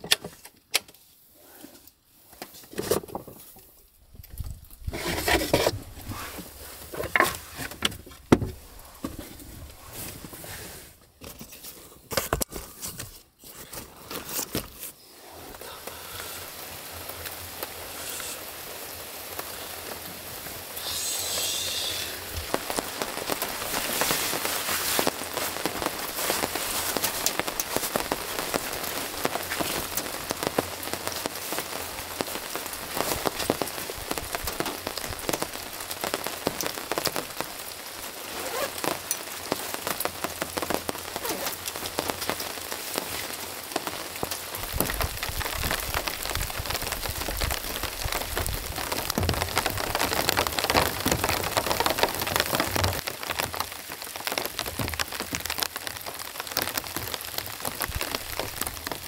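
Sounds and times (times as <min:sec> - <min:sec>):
heavy rain on a tarp: 0:01.0 - 0:59.0.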